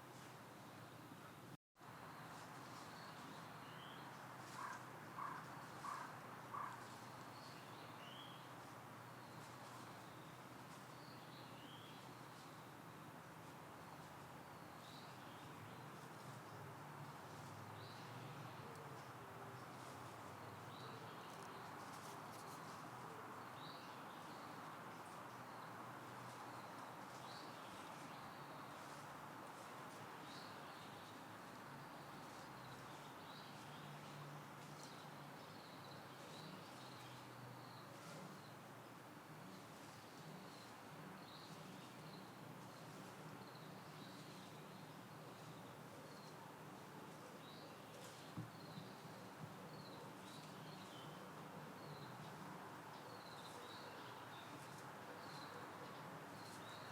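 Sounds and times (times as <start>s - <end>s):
faint outdoor background noise: 0.0s - 56.9s.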